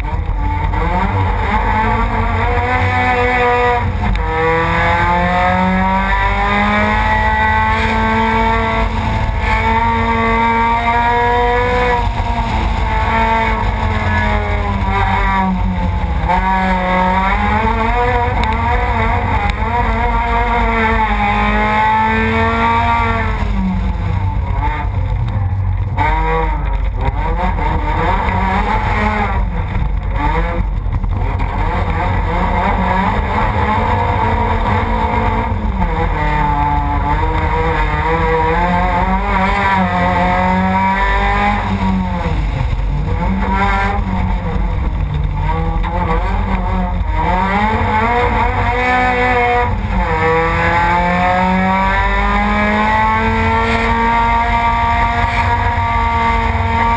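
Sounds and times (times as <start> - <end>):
heavy low rumble: 0.0 - 51.5
car engine revving: 0.0 - 56.9
rough road noise: 0.0 - 56.9.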